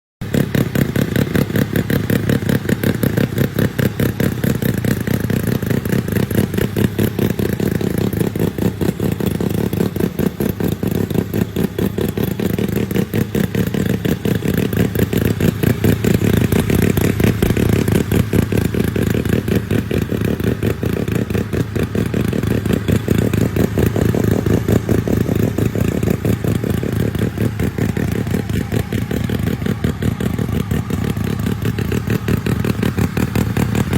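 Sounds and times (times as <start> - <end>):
mini bike engine running: 0.2 - 33.9.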